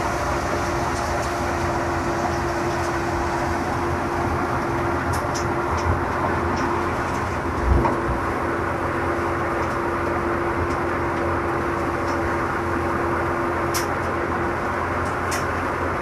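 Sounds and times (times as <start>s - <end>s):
grain thresher running: 0.0s - 16.0s.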